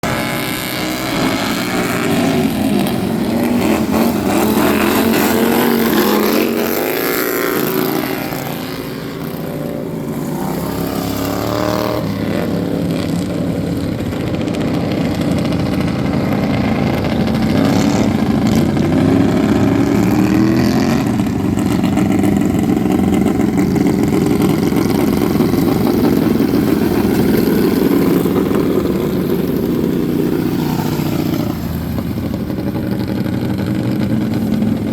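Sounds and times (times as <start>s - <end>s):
racing lawn mower engines revving: 0.0s - 34.9s.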